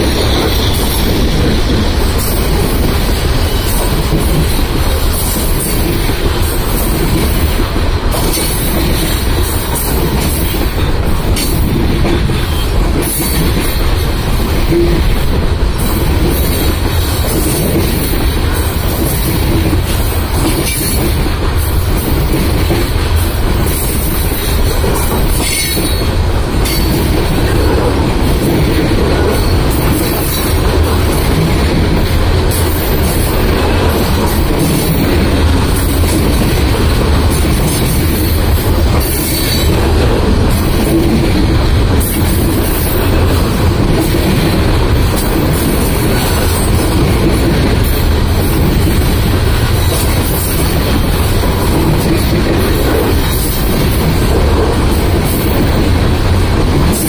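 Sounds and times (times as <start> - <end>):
freight cars rumbling and clattering: 0.0 - 57.0.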